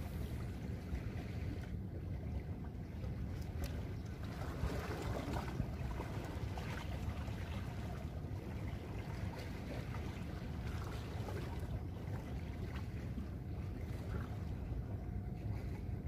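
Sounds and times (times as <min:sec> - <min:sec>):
faint water sounds: 0:00.0 - 0:16.0.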